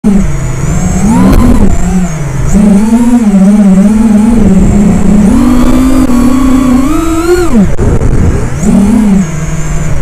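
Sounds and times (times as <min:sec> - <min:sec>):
drone motors buzzing: 0:00.0 - 0:10.0
wind rumble on microphone: 0:00.0 - 0:10.0.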